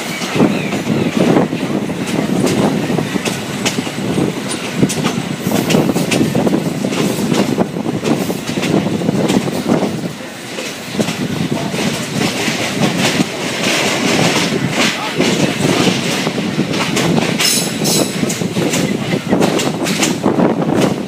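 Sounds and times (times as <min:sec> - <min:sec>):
train wheels rumbling on rails: 0:00.0 - 0:21.0
clicking and clattering of track: 0:02.0 - 0:09.9, 0:10.5 - 0:21.0.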